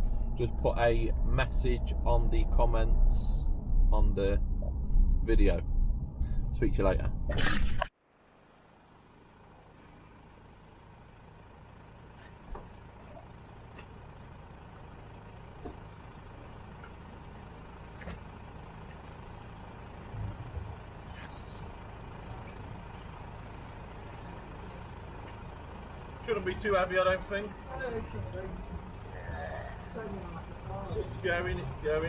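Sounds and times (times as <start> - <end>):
vehicle engine idling: 0.0 - 7.4, 8.0 - 32.0.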